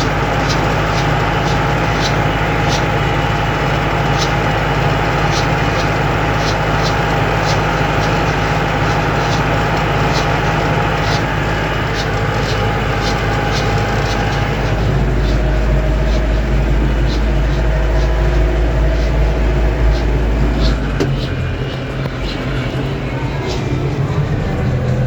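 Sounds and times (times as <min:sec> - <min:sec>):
heavy low rumble: 0:00.0 - 0:25.0
tractor engine drone: 0:00.0 - 0:25.0.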